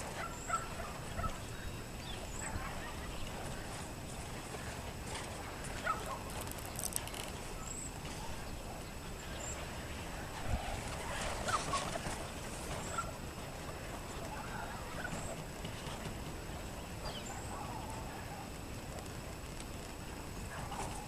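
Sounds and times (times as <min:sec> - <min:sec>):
rustle: 0:00.0 - 0:21.0
wind rumbling on microphone: 0:00.0 - 0:21.0.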